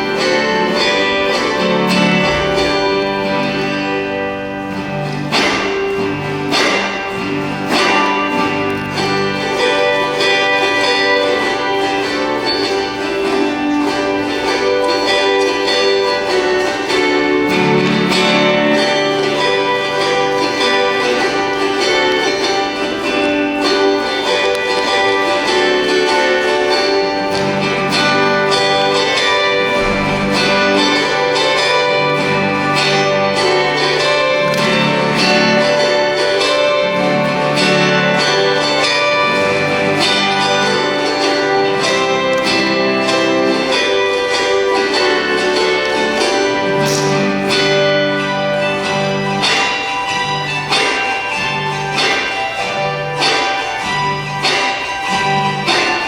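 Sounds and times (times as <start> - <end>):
autoharps strumming a hymn: 0.0 - 56.0.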